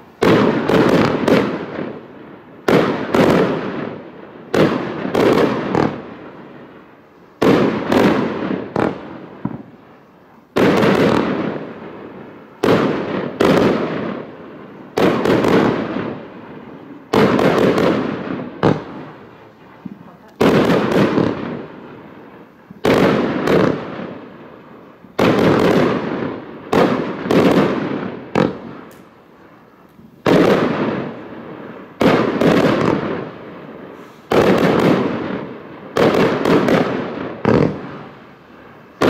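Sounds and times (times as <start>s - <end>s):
firework bangs: 0.0s - 39.0s.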